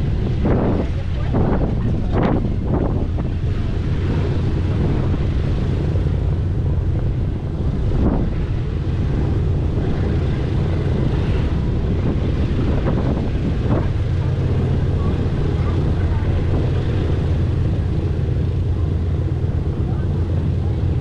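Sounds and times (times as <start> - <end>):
aircraft engines droning: 0.0 - 21.0
wind noise on microphone: 0.0 - 21.0.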